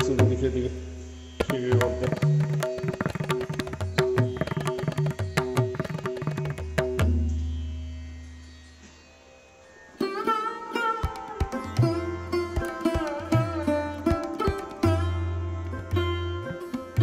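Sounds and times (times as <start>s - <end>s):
rapid tabla strokes: 0.0s - 7.7s, 10.8s - 17.0s.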